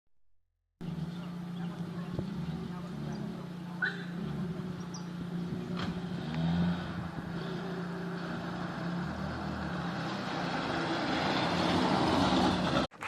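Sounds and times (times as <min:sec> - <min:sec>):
car engine running: 0:00.8 - 0:12.9.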